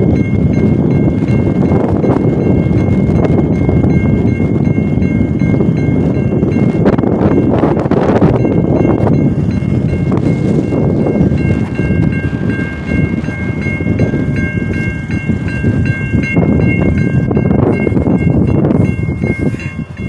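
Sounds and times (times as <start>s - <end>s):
railroad crossing bells dinging: 0.0s - 20.0s
wind rumble on microphone: 0.0s - 20.0s.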